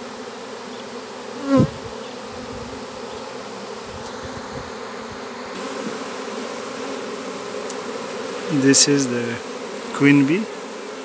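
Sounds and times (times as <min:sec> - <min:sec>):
bee flying past buzzing: 0:00.0 - 0:11.0
bee swarm buzzing: 0:00.0 - 0:11.0.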